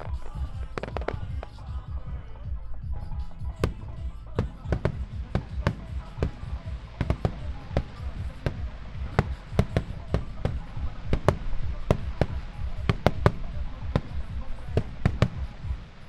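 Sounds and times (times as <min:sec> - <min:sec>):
echoing rumble of reports: 0:00.0 - 0:16.0
faint music: 0:00.0 - 0:16.0
fireworks bursting: 0:00.0 - 0:16.0.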